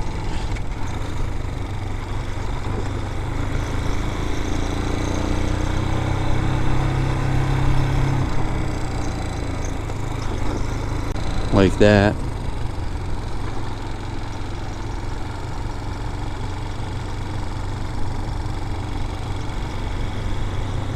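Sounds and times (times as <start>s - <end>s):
dirt bike engine running: 0.0s - 20.9s.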